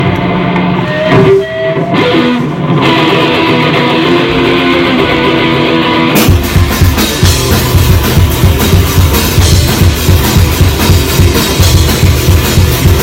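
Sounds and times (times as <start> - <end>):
drums: 0.0 - 13.0
electric guitar ringing chords: 0.0 - 13.0
live rock band: 0.0 - 13.0.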